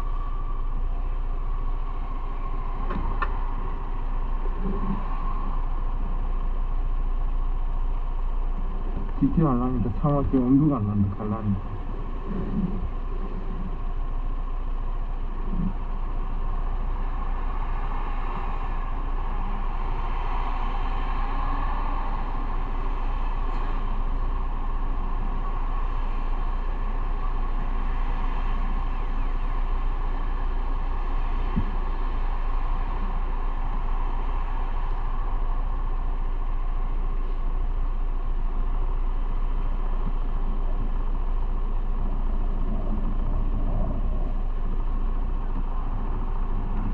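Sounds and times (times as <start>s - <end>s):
road noise: 0.0s - 46.9s.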